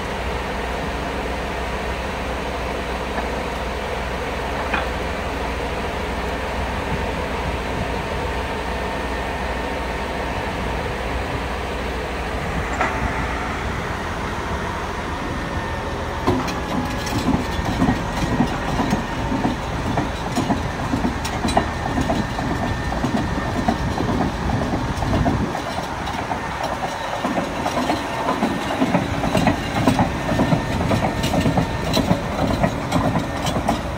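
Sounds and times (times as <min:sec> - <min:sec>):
bulldozer diesel engine idling: 0:00.0 - 0:33.9.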